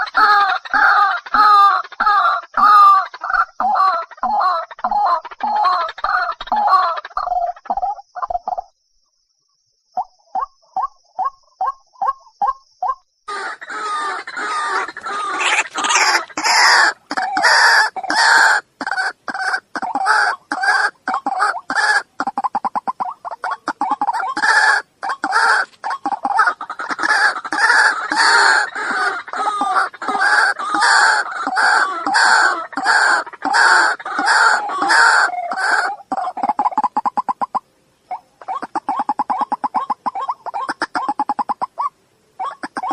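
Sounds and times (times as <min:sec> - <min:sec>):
waterhen harsh calls: 0:00.0 - 0:07.1, 0:13.3 - 0:42.9.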